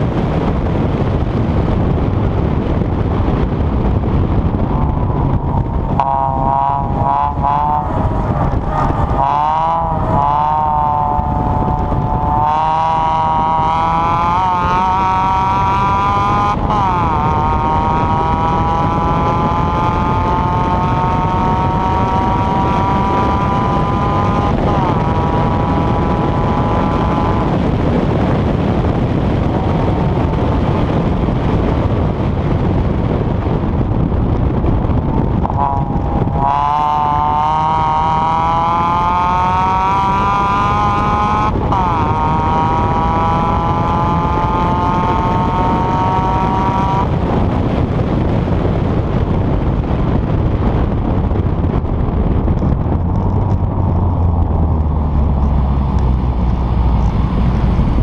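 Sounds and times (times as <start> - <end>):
car engine at speed: 0.0 - 58.0
tyre road noise: 0.0 - 58.0
wind noise: 0.0 - 58.0.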